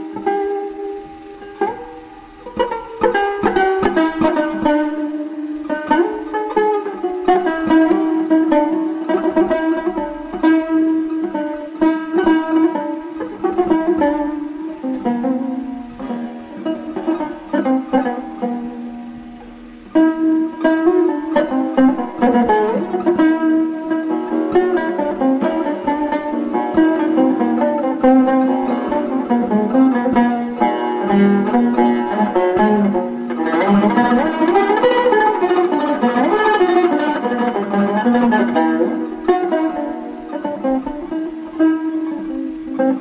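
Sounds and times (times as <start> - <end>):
plucked lute melody: 0.0 - 43.0.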